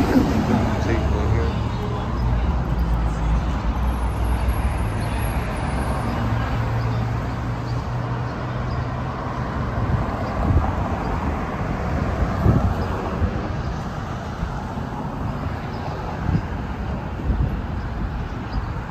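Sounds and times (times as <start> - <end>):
vehicle traffic noise: 0.0 - 18.9.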